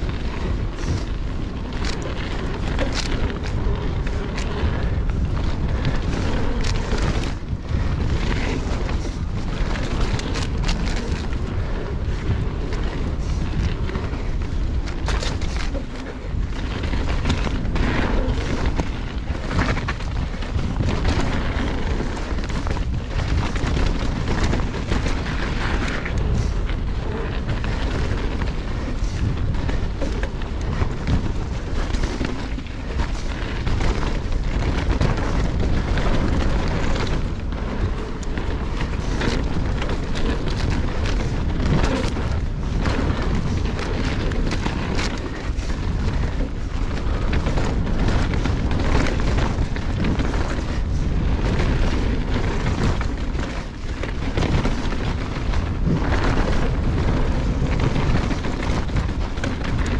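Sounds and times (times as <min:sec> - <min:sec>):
bike rattling over bumps: 0:00.0 - 0:59.9
wind buffeting microphone: 0:00.0 - 0:59.9.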